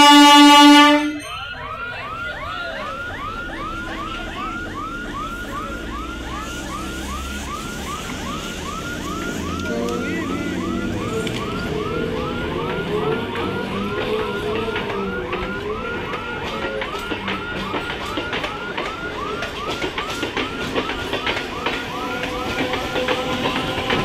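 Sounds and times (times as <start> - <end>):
train motor hum and whine: 2.9 - 24.0.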